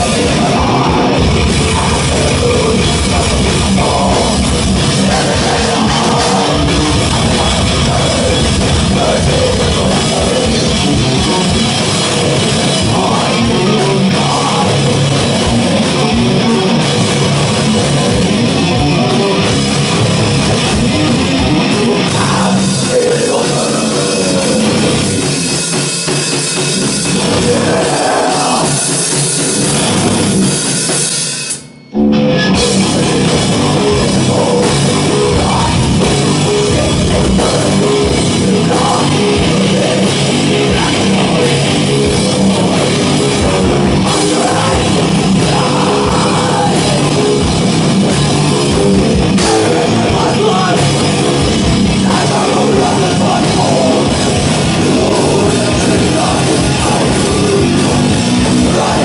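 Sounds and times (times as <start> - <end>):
distorted electric guitar: 0.0 - 59.0
drum kit: 0.0 - 59.0.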